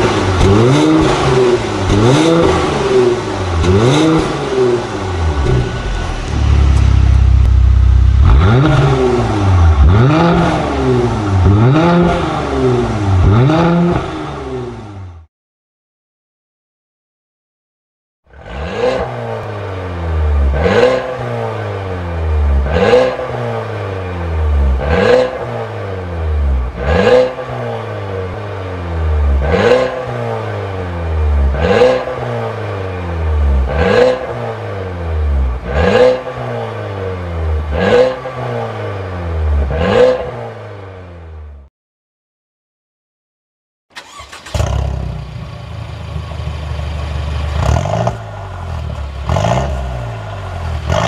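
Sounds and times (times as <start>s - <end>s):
car engine revving with exhaust crack: 0.0s - 15.0s, 18.3s - 40.8s, 44.0s - 51.0s.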